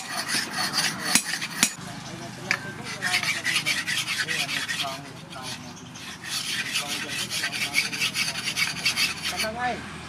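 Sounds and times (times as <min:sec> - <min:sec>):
axe blade rasping on sharpening stone: 0:00.0 - 0:01.8, 0:02.5 - 0:09.5.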